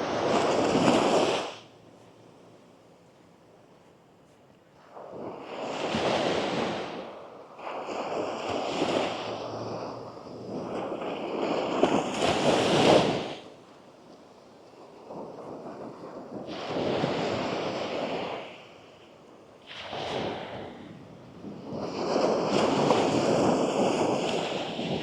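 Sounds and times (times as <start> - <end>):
sea waves washing up sand: 0.0 - 1.8, 4.8 - 13.5, 14.8 - 25.0.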